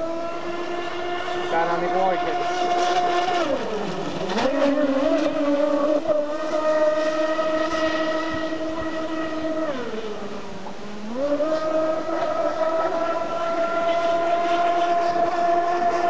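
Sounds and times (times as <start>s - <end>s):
electric boat motors whining: 0.0s - 16.0s.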